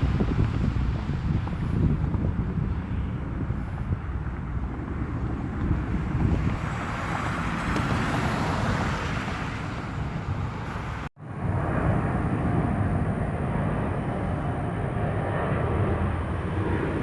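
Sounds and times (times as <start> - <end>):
jet airliner engines passing: 0.0 - 17.0
wind buffeting microphone: 0.0 - 17.0.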